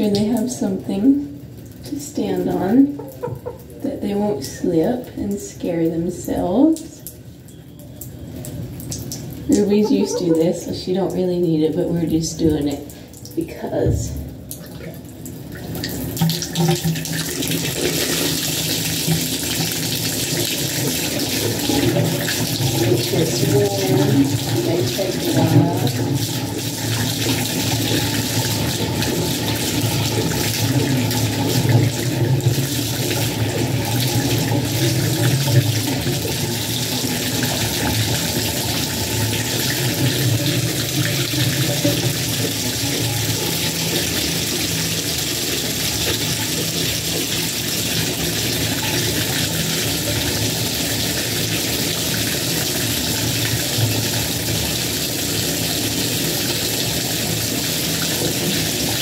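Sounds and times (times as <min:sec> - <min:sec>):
water pouring into bathtub: 0:00.0 - 0:59.0.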